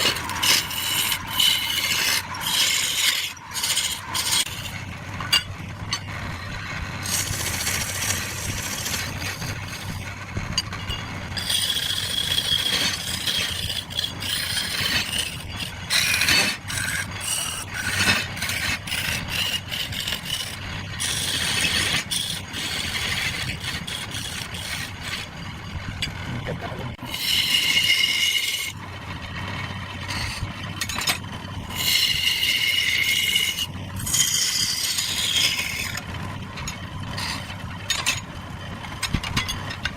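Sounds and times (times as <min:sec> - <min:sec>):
wood lathe humming: 0:00.0 - 0:10.4, 0:11.2 - 0:26.3, 0:27.0 - 0:39.0
tool scraping spinning wood: 0:00.0 - 0:39.9.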